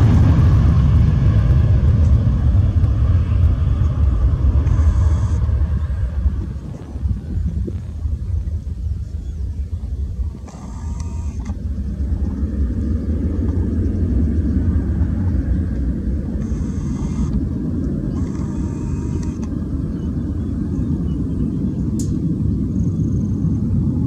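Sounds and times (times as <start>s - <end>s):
jet engines low rumble: 0.0s - 24.0s.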